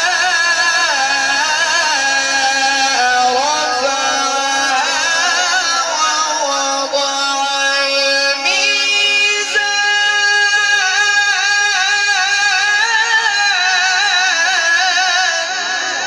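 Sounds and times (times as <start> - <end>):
person reciting melodically: 0.0 - 16.0.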